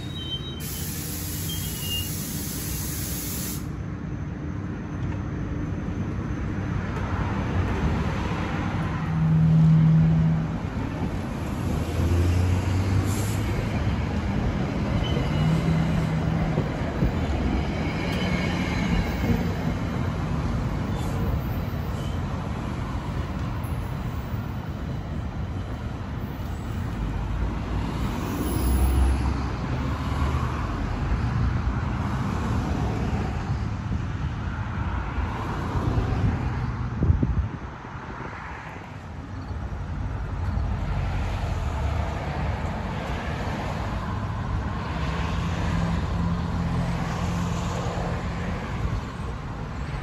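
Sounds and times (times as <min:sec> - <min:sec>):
rumble of passing vehicles: 0:00.0 - 0:50.0.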